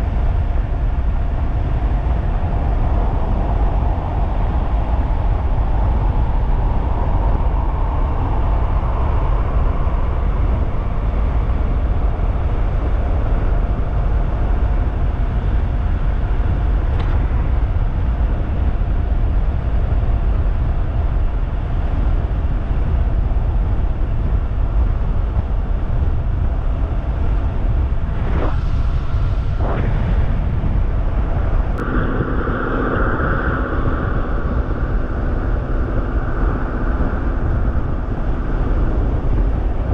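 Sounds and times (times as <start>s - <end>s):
wind over microphone: 0.0s - 39.9s.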